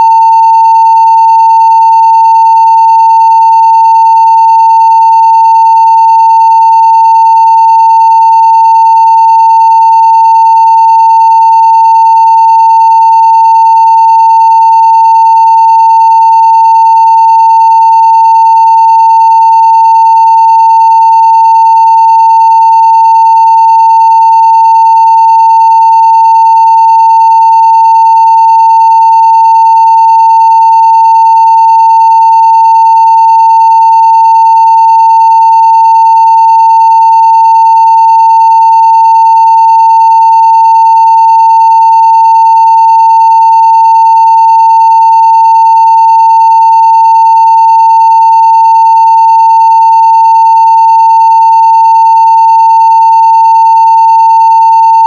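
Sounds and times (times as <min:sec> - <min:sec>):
sine wave test tone: 0:00.0 - 0:55.0.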